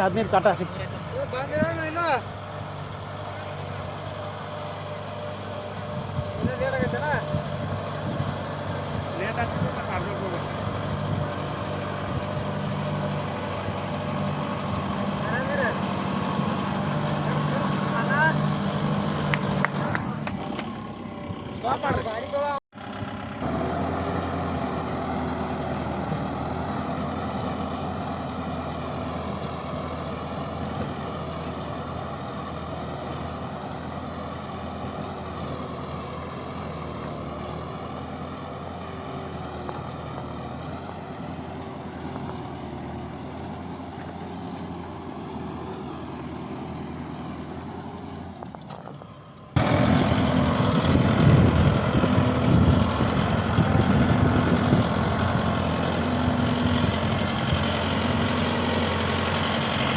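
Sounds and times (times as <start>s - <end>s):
diesel tractor engine running: 0.0s - 59.9s
loud close engine: 0.0s - 59.9s.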